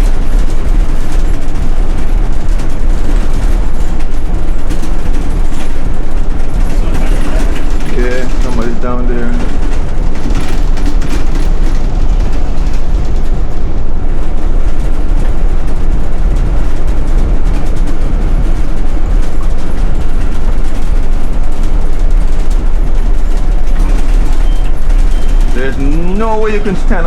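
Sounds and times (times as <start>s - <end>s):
bus engine and road rumble: 0.0s - 27.0s
tire chains rattling: 0.0s - 27.0s.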